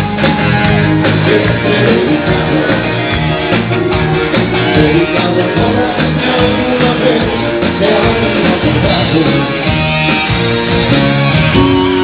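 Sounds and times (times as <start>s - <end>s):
live band playing instrumental: 0.0s - 12.0s.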